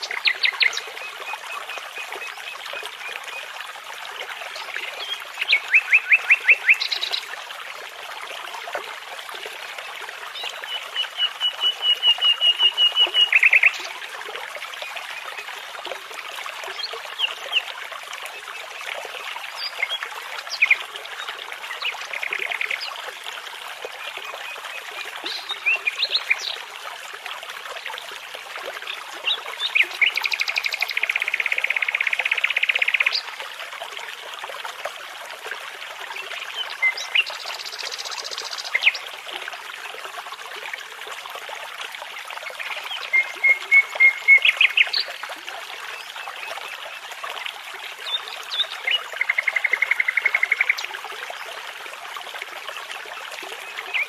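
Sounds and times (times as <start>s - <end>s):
babbling brook: 0.0s - 54.0s.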